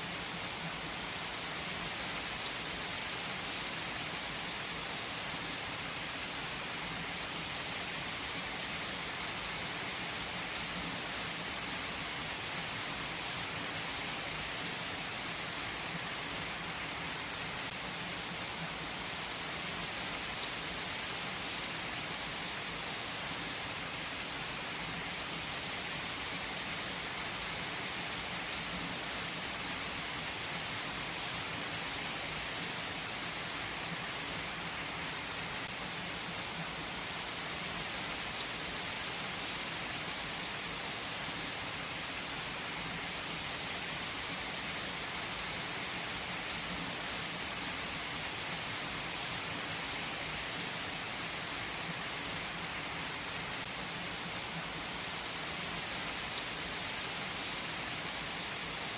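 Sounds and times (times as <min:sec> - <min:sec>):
heavy rain falling on trees: 0:00.0 - 0:58.9.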